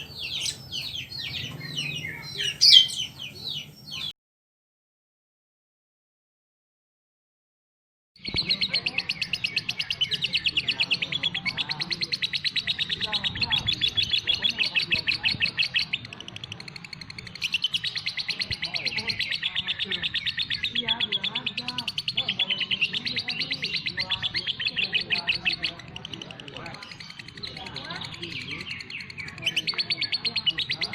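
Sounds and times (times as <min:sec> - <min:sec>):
songbird chirping rapidly: 0:00.0 - 0:04.1, 0:08.2 - 0:30.9.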